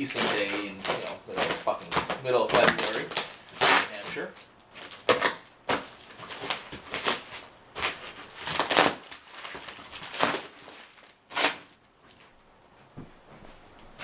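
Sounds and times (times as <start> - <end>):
packaging rustling and crinkling: 0.0 - 12.4.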